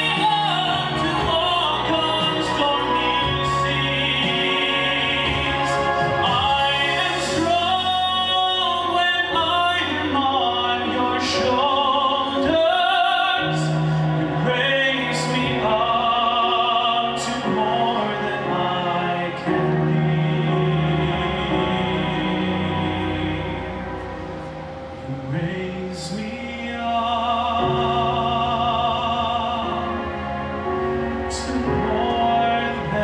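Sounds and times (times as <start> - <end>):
man singing operatically: 0.0 - 24.0, 25.1 - 30.1, 31.2 - 33.0
amplified instrumental accompaniment: 0.0 - 33.0.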